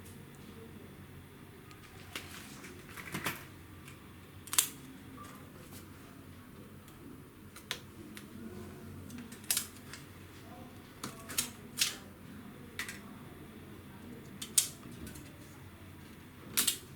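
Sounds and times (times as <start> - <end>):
faint room noise: 0.0 - 16.9.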